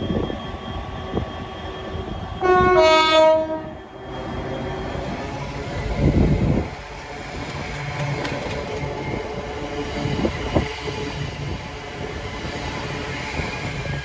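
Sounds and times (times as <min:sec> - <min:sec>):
train rumbling: 0:00.0 - 0:14.0
train clanks: 0:02.4 - 0:14.0.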